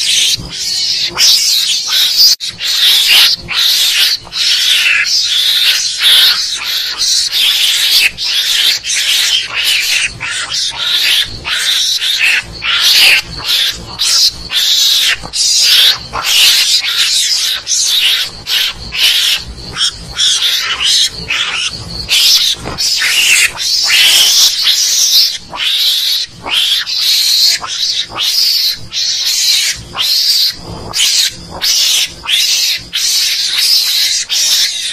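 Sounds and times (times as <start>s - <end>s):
mongoose harsh raspy chattering: 0.0s - 34.9s.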